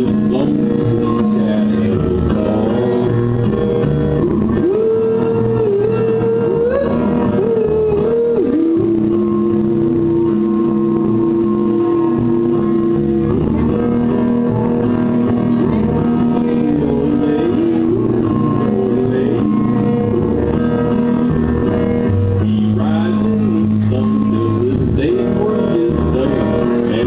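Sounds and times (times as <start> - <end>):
man singing into microphone: 0.0 - 3.7, 4.3 - 13.9, 15.7 - 20.8, 22.4 - 27.0
karaoke backing track with guitar: 0.0 - 27.0.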